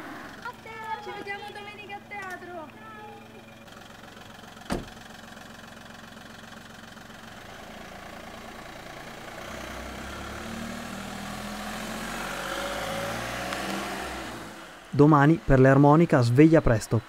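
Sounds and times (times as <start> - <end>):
car engine idling and pulling away: 0.0 - 17.0.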